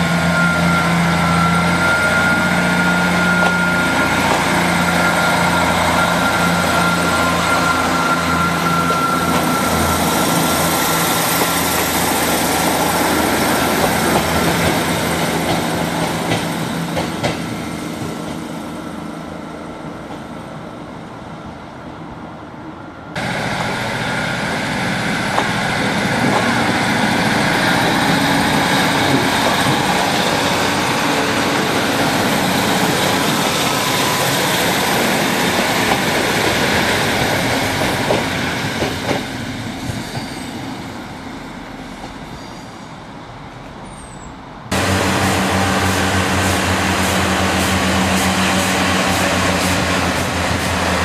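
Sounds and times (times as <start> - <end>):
diesel train engine drone: 0.0 - 51.0.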